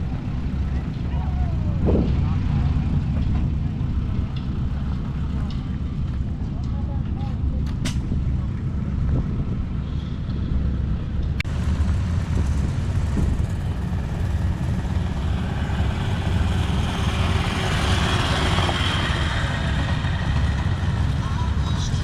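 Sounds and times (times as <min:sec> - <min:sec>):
large engine rumbling: 0:00.0 - 0:22.0.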